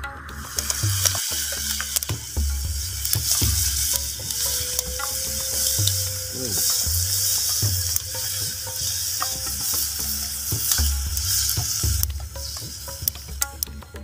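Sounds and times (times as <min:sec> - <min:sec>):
food sizzling in hot oil: 0:00.4 - 0:13.4.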